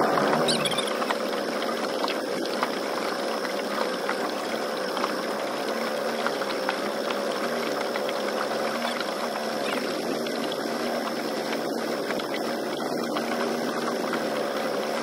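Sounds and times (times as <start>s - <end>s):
small boat motor buzzing: 0.0s - 15.0s
water splashing: 0.0s - 15.0s.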